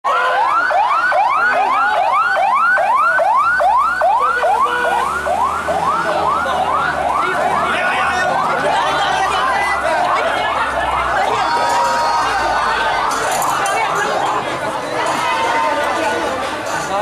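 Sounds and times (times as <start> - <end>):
fire engine siren yelping: 0.1 - 16.2.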